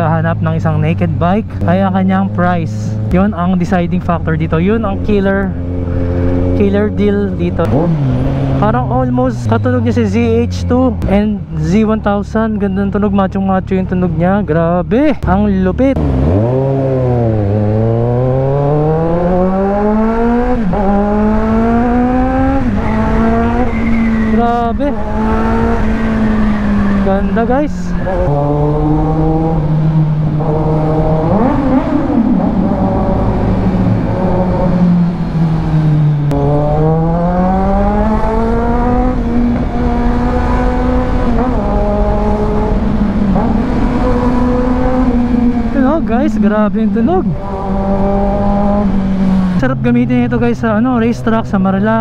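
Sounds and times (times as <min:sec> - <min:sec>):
motorcycle engine accelerating hard: 0:00.8 - 0:11.3, 0:15.2 - 0:52.0.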